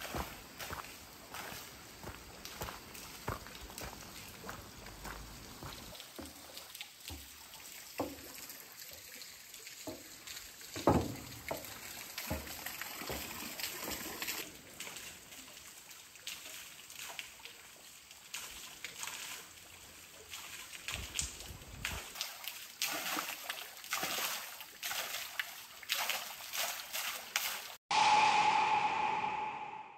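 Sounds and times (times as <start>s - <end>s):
water trickling and sloshing: 0.0s - 27.8s.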